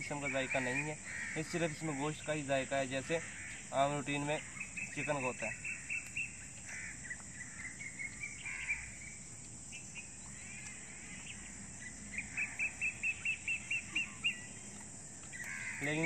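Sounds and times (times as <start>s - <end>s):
bird chirping: 0.0s - 16.0s
insects droning: 0.0s - 16.0s.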